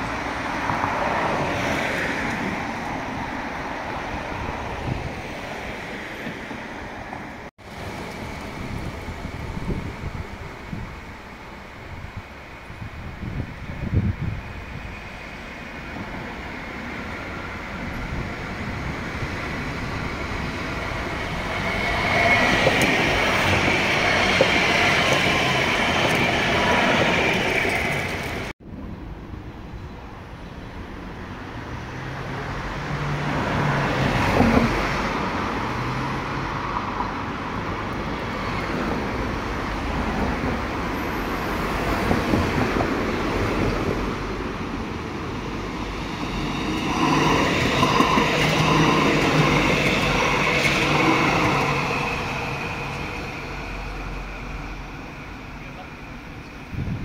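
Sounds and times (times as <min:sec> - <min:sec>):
tram wheels running on track: 0:00.0 - 0:57.0.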